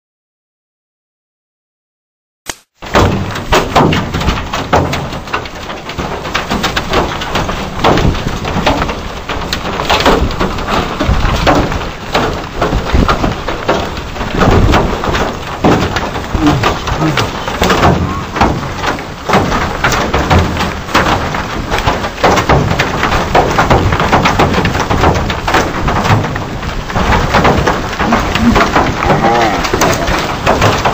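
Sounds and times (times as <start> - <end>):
rain falling: 2.8 - 30.9
wind gusting on microphone: 3.2 - 30.9.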